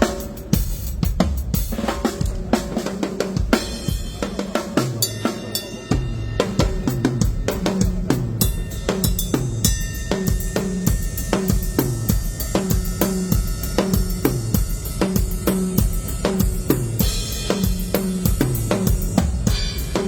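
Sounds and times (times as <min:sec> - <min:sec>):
drum kit beat: 0:00.0 - 0:20.0.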